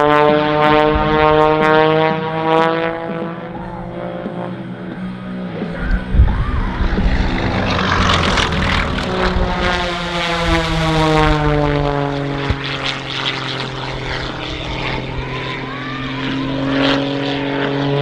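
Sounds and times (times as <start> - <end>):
propeller planes passing: 0.0 - 18.0.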